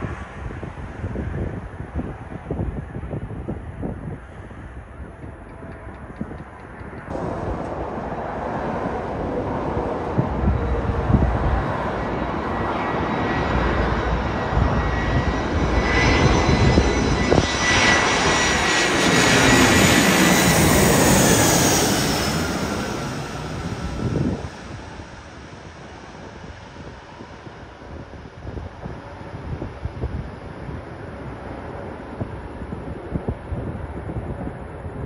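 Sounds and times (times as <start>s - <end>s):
high jet engine whine: 0.0s - 35.0s
jet airliner passing overhead: 0.0s - 35.0s.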